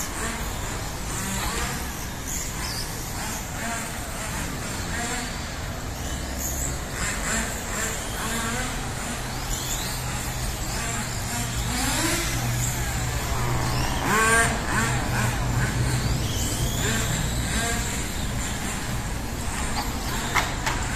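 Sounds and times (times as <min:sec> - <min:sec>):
rc car electric motors whining: 0:00.0 - 0:20.9.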